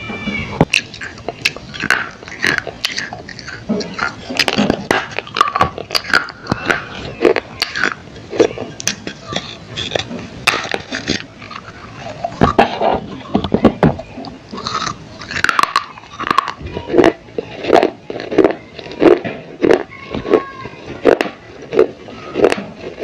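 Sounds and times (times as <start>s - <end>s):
mouth sounds: 0.1s - 23.0s
crunching while chewing: 0.6s - 13.2s, 14.2s - 23.0s.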